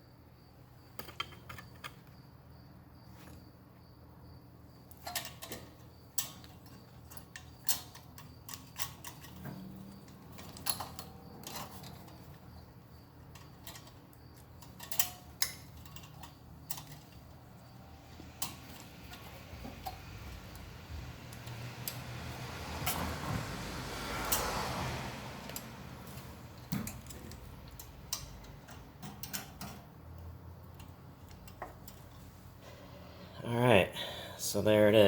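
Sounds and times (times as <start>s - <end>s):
tools clicking and knocking: 0.9s - 2.2s, 4.9s - 32.3s.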